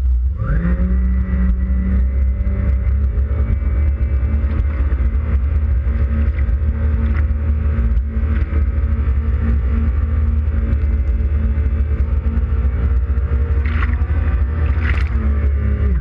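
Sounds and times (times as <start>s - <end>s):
personal watercraft engine droning: 0.0s - 16.0s.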